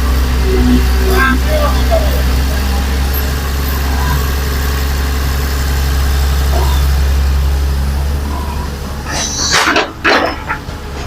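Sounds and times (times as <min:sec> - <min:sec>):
heavy diesel engine humming: 0:00.0 - 0:11.0.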